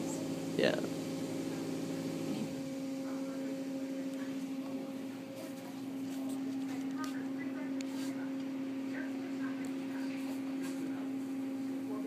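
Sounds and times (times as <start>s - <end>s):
car wash machinery humming: 0.0s - 12.0s.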